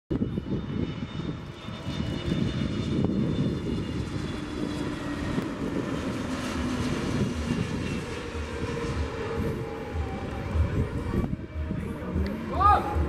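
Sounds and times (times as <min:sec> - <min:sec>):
faint high engine whine: 0:00.1 - 0:13.0
jet plane passing overhead: 0:00.1 - 0:13.0.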